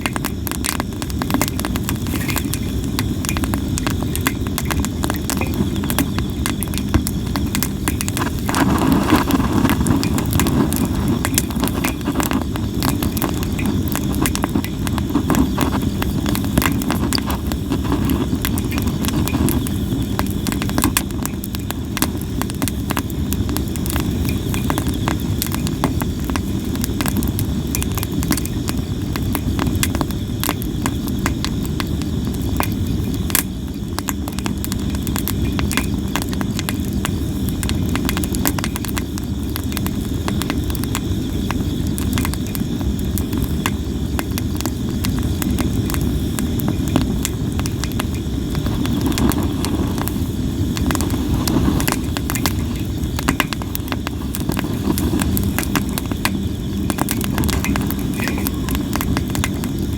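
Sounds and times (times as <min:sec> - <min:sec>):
firewood crackling and popping: 0:00.0 - 0:59.9
low rush of flames: 0:00.0 - 0:59.9.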